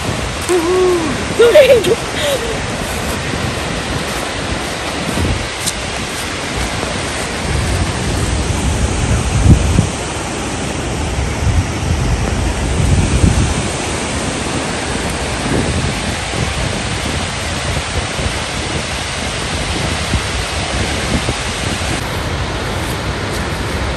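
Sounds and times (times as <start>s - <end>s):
waterfall rushing: 0.0s - 23.9s
wind buffeting microphone: 0.0s - 23.9s.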